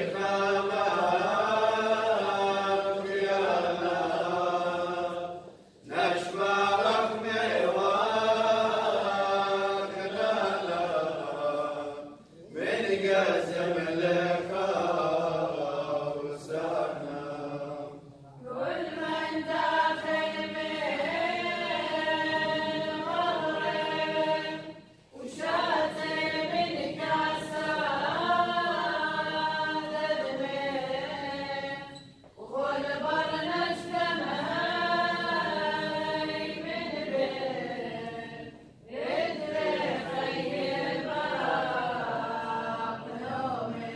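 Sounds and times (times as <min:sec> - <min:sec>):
choir chanting a hymn: 0:00.0 - 0:43.9.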